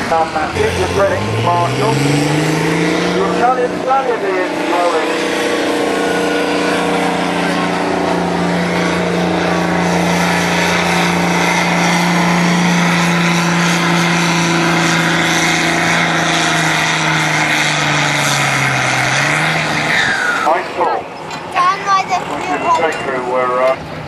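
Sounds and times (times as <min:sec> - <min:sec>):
tractor diesel engine labouring: 0:00.0 - 0:24.0.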